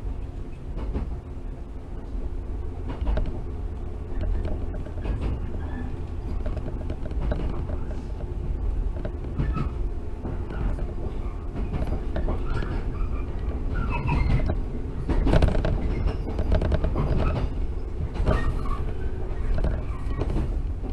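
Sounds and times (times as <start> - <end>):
train wheels rumbling: 0.0 - 20.9.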